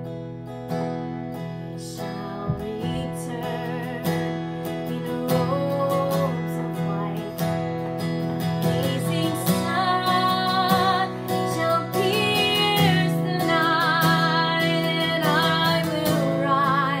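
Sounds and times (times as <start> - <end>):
acoustic guitar strumming chords: 0.0 - 17.0
woman singing: 1.6 - 7.8, 8.4 - 17.0.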